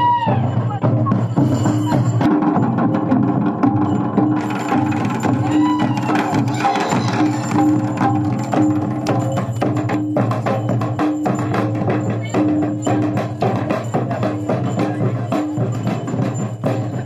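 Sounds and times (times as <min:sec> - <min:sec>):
drums beaten in dance rhythm: 0:00.0 - 0:17.0.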